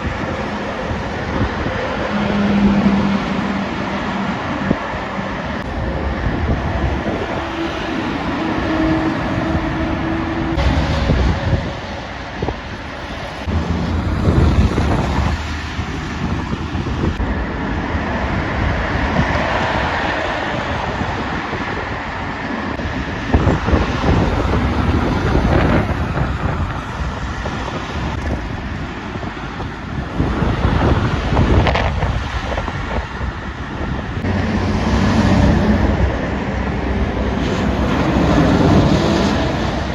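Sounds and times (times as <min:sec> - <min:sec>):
heavy trucks passing: 0:00.0 - 0:39.9
wind buffeting microphone: 0:00.0 - 0:39.9.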